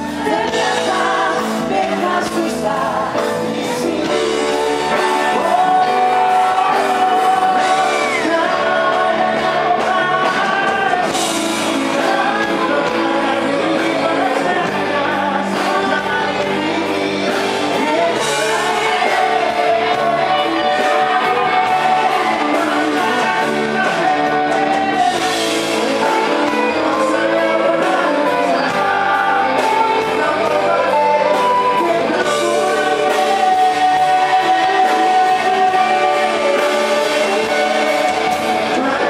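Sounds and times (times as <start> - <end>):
live band playing: 0.0 - 39.0
man singing: 0.0 - 39.0
woman singing: 0.0 - 39.0.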